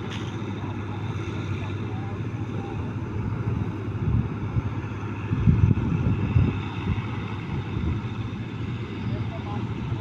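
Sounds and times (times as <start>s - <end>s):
diesel engine droning: 0.0s - 10.0s
wind buffeting microphone: 0.0s - 10.0s.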